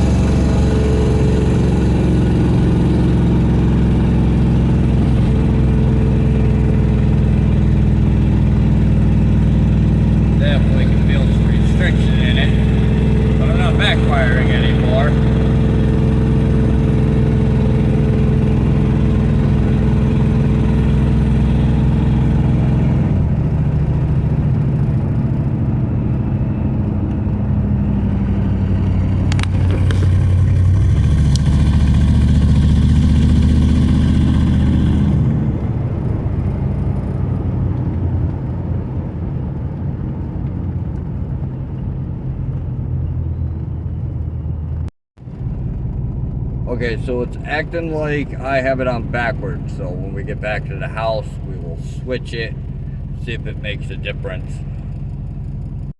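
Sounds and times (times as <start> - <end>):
misfiring car engine: 0.0 - 55.9
road noise: 0.0 - 55.9.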